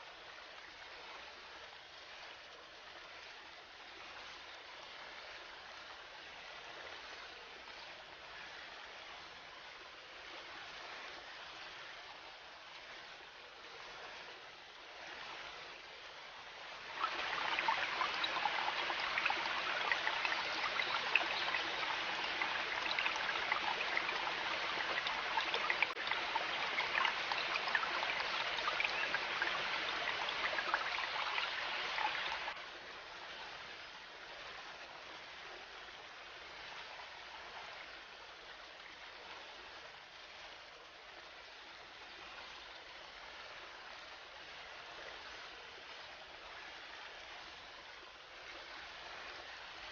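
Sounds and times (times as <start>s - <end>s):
river water rushing: 0.1s - 49.9s.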